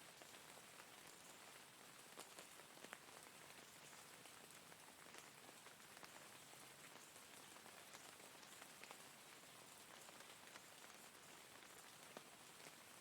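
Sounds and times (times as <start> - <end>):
faint steady rain hiss: 0.0 - 13.0.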